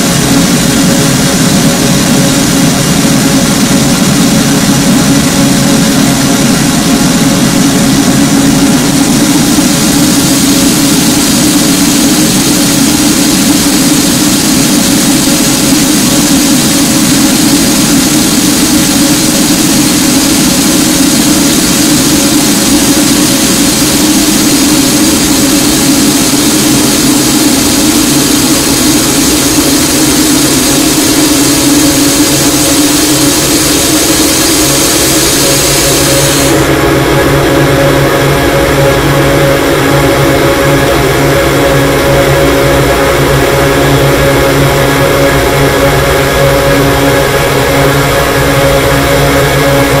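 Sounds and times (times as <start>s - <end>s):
harsh distorted noise music: 0.0s - 50.0s.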